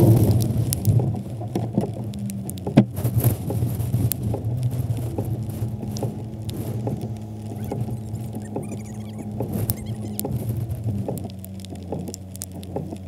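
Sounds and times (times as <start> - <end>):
raindrops pattering on camera: 0.0 - 13.0
steady low hum: 0.0 - 13.0.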